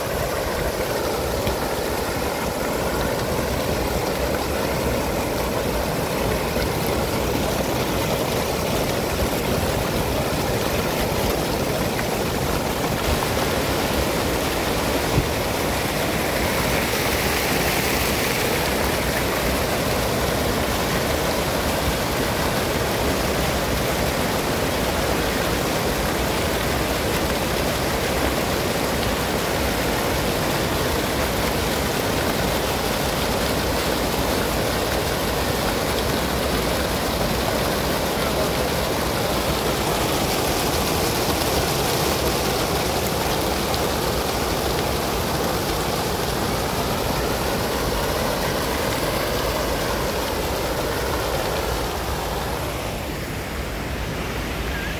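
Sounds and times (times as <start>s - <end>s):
fountain water splashing into pool: 0.0s - 54.9s.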